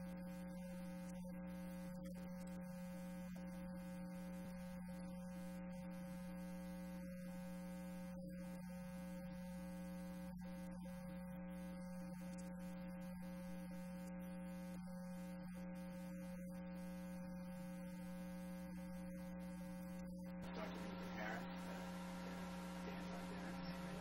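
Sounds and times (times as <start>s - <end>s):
electrical hum with buzzing: 0.0s - 24.0s.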